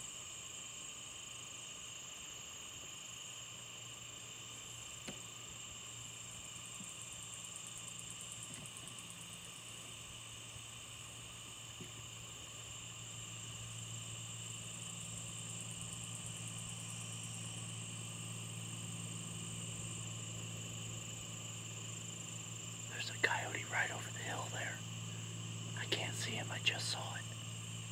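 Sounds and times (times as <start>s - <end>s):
crickets and insects chirring: 0.0s - 27.9s
faint low hum: 0.0s - 27.9s.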